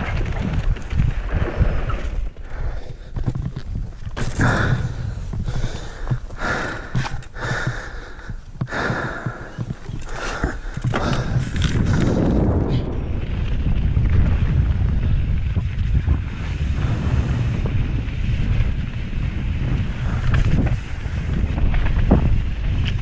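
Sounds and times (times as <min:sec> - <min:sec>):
bike rattling on rough ground: 0:00.0 - 0:23.0
wind buffeting microphone: 0:00.0 - 0:23.0.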